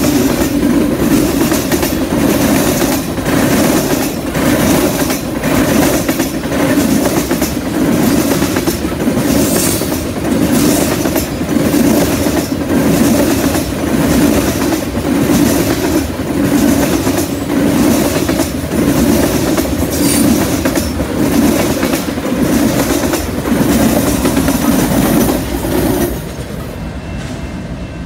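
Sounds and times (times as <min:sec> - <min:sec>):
train wheels clickety-clack: 0:00.0 - 0:27.4
locomotive passing: 0:00.0 - 0:28.0.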